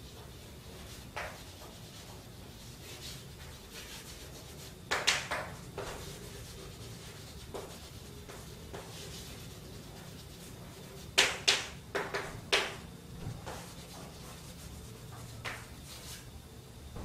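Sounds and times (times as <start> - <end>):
chalk writing on a blackboard: 0.0 - 16.4
low room hum: 0.0 - 17.0.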